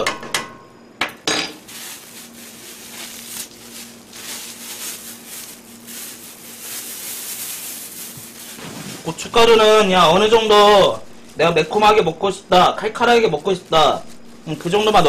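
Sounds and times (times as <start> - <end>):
plastic bag crinkling: 1.6 - 15.0.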